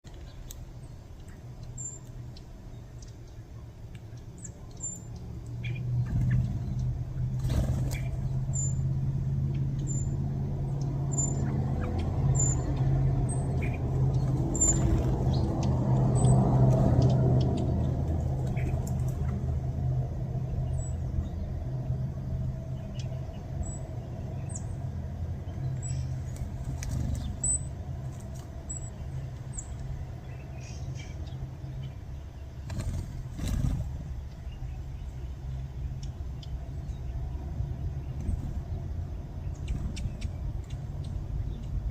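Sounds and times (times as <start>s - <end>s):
birds chirping: 0.0s - 41.9s
steady low rumble: 0.1s - 41.9s.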